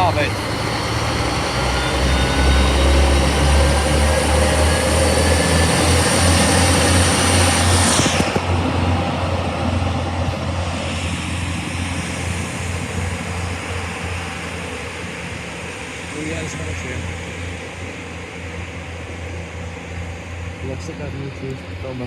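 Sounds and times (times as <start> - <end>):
diesel train engine rumble: 0.0 - 22.0.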